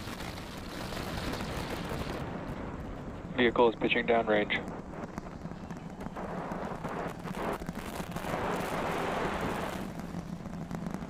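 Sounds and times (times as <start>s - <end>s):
rocket engines crackling rumble: 0.0s - 11.0s.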